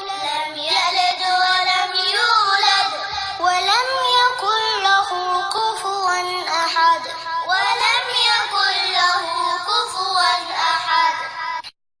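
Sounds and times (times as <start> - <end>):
person chanting melodically: 0.0 - 11.7.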